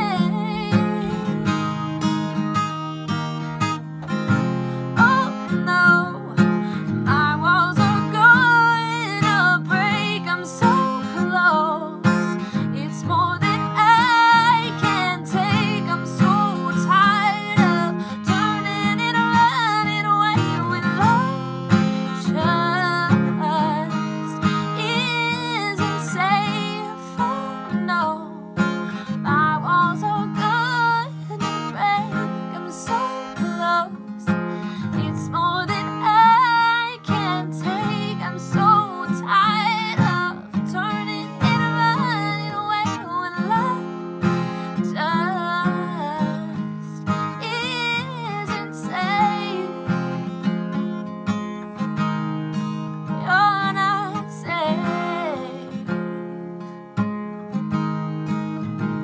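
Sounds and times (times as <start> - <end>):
woman singing: 0.0 - 2.7, 4.0 - 50.8, 53.0 - 56.2
acoustic guitar strumming: 0.0 - 59.0.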